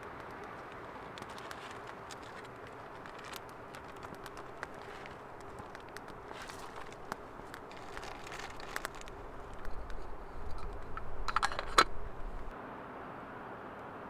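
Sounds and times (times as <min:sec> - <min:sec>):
campfire crackling and popping: 0:00.0 - 0:12.6.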